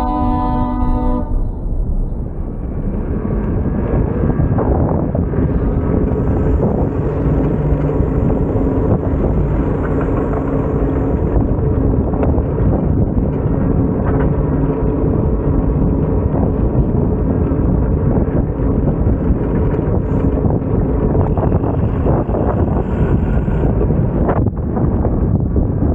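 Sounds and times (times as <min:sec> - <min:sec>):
wind rumble on microphone: 0:00.0 - 0:25.9.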